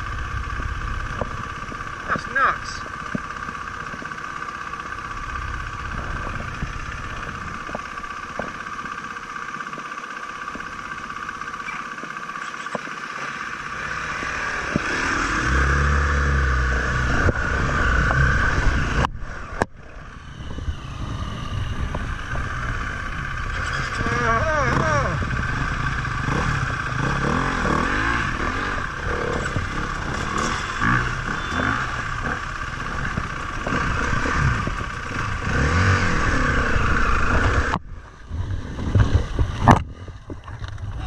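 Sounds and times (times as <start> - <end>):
motorcycle engines idling and revving: 0.0 - 41.0.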